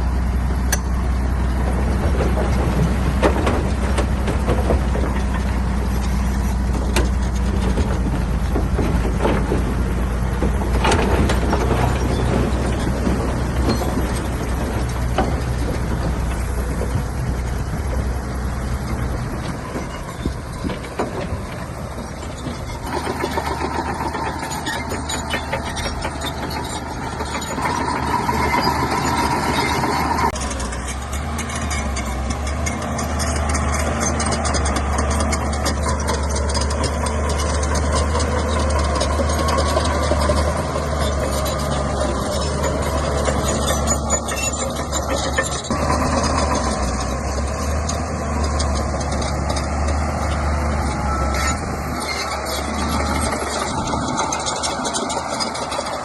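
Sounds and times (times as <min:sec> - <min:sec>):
bulldozer diesel engine droning: 0:00.0 - 0:56.0
tracks and stones rattling: 0:00.7 - 0:56.0.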